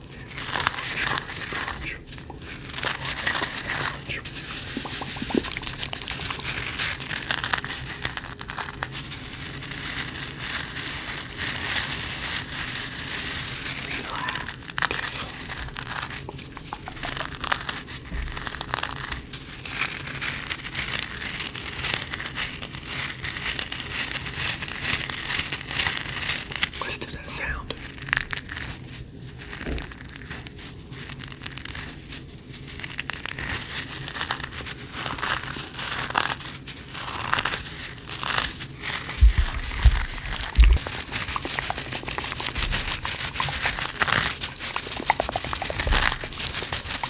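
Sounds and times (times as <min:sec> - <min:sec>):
hacky sack crunching: 0:00.0 - 0:47.0.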